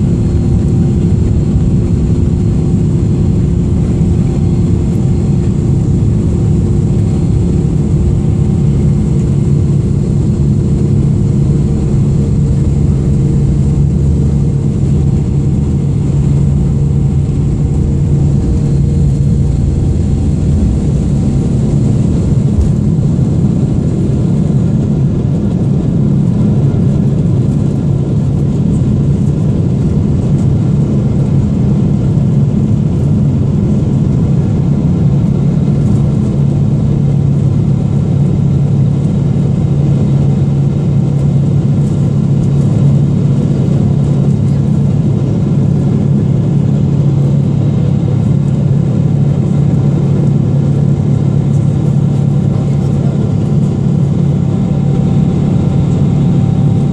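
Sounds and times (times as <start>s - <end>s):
jet engines droning in cabin: 0.0s - 56.9s.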